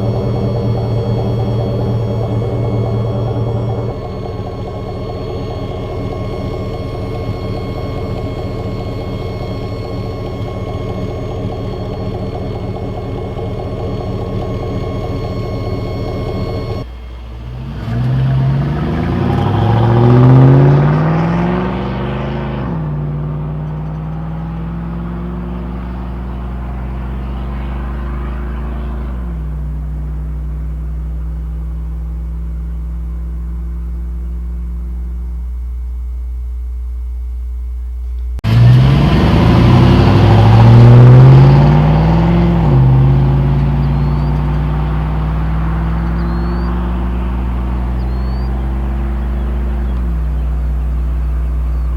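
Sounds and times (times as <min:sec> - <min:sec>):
vehicle engine exhaust accelerating: 0:00.0 - 0:51.9.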